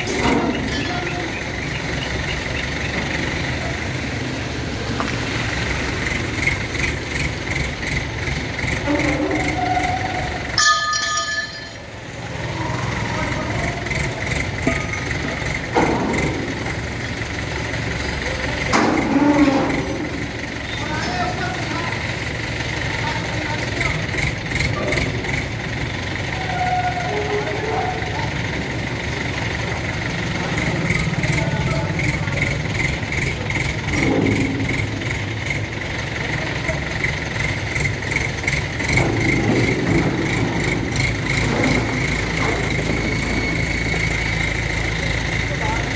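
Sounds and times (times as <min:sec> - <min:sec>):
crane engine idling: 0:00.0 - 0:45.9.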